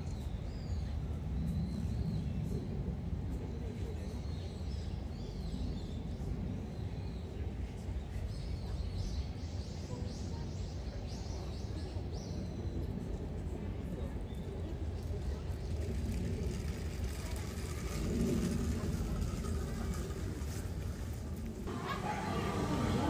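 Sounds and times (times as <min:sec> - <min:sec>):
murmur of distant voices: 0:00.0 - 0:23.0
steady low rumble: 0:00.0 - 0:23.0.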